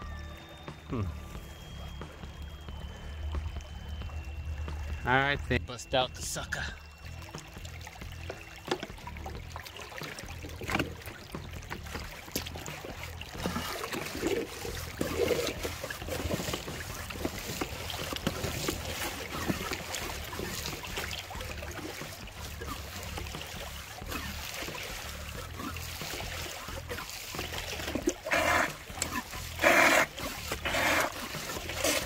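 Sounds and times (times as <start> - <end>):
water sloshing and splashing: 0.0 - 32.0.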